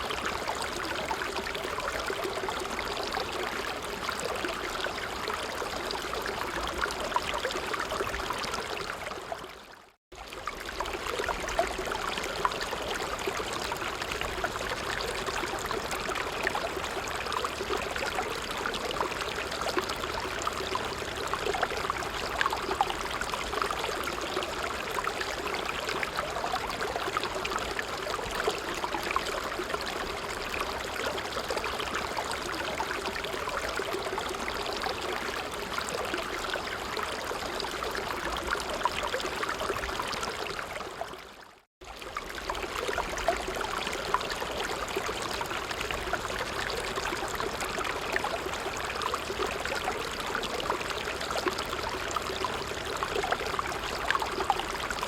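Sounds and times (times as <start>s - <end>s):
small stream bubbling: 0.0s - 55.0s.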